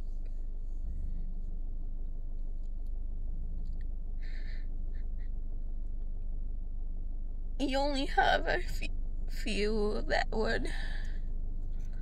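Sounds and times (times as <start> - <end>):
car engine rumbling inside cabin: 0.0 - 12.0.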